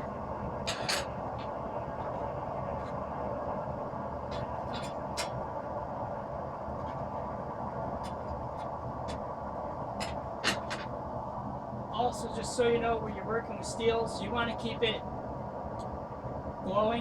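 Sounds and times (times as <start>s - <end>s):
gas forge burner running: 0.0s - 17.0s.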